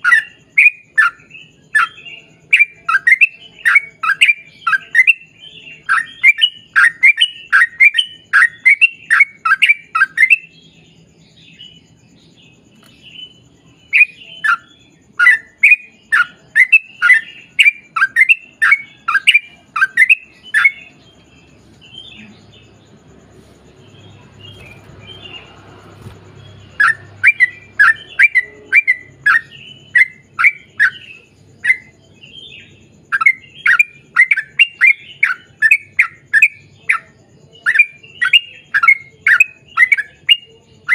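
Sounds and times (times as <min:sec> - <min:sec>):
bulbul singing rapid chirps: 0:00.0 - 0:40.9.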